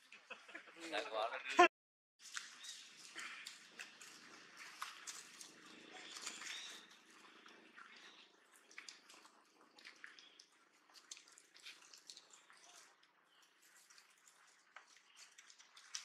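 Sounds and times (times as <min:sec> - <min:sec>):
monkey chewing: 0:02.3 - 0:16.0.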